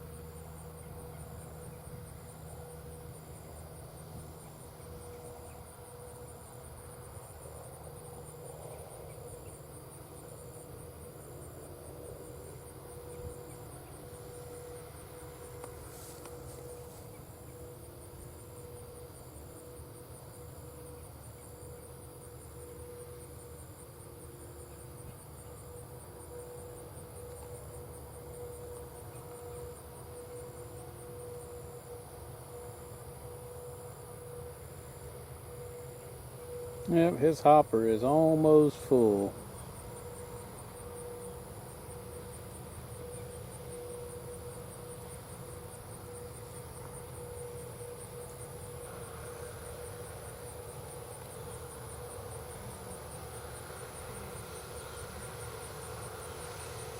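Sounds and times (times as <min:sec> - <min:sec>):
distant farm machinery hum: 0:00.0 - 0:56.9
insect chirping: 0:00.0 - 0:56.9
insects trilling: 0:00.0 - 0:56.9.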